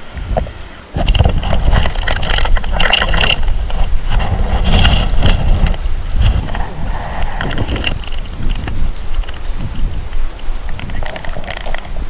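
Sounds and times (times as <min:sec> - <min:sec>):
rain crackling and spattering: 0:00.0 - 0:12.0
wind buffeting microphone: 0:00.0 - 0:12.0.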